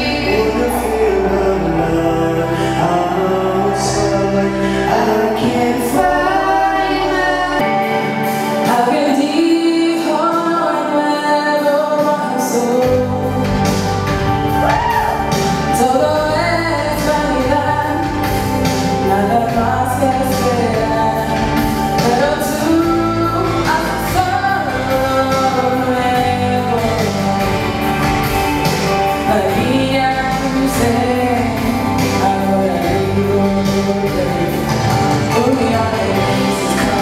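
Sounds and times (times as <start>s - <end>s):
male-female duet singing: 0.0s - 8.0s, 8.6s - 13.9s, 14.6s - 27.7s, 29.2s - 37.0s
woman singing: 0.0s - 28.0s, 29.0s - 37.0s
musical accompaniment: 0.0s - 37.0s.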